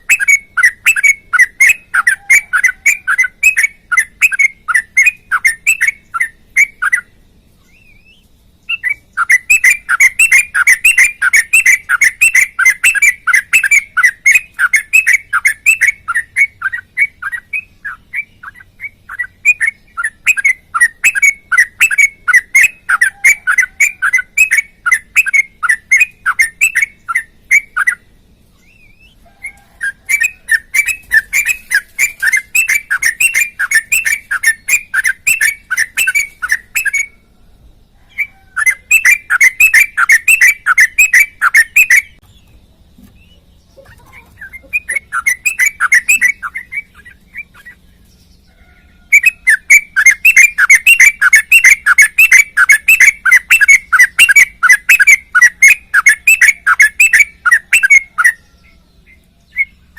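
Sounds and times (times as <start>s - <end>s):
bulbul chirping song: 0.0s - 59.9s.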